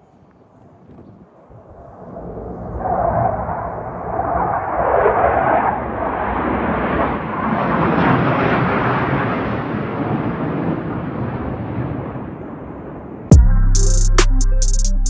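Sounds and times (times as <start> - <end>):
airplane flying overhead: 0.6 - 13.2.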